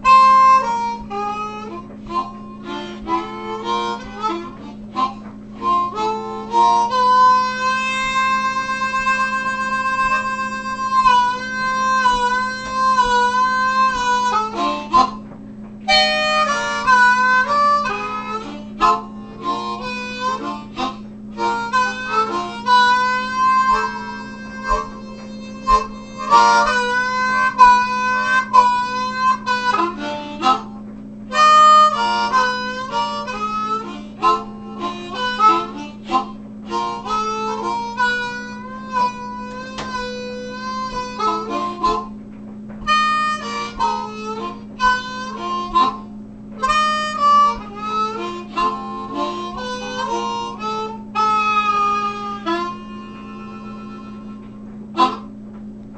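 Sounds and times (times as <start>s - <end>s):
blues harmonica: 0.0s - 55.7s
steady low hum: 0.0s - 55.9s.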